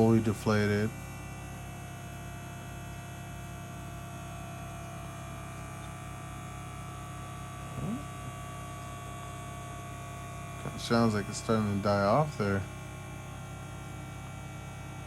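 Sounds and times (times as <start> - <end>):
electric ball pump humming: 0.0 - 15.0.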